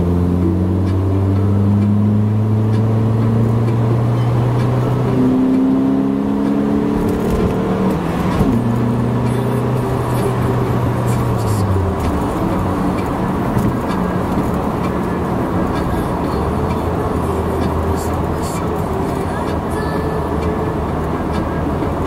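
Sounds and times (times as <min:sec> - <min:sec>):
car engine accelerating: 0:00.0 - 0:22.0
road noise inside car: 0:00.0 - 0:22.0.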